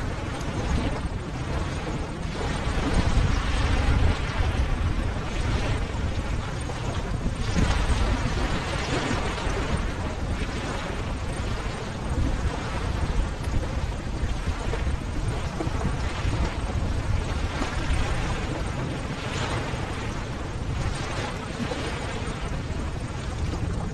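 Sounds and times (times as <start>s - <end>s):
ocean waves breaking: 0.0s - 23.9s.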